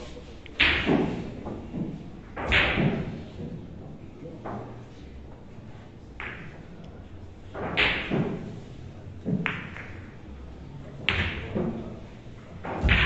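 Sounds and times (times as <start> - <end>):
billiard balls clacking: 0.0 - 5.0, 6.1 - 13.0.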